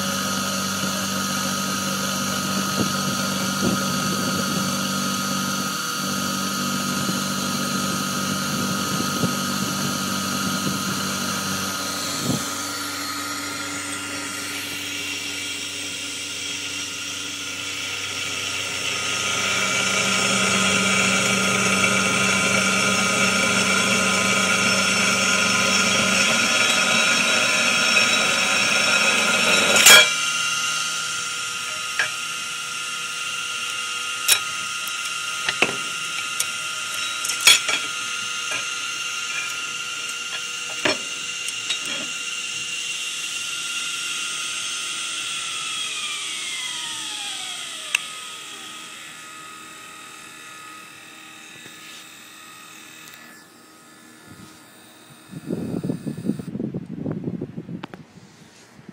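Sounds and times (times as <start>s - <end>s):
milling machine motors whining: 0.0s - 56.6s.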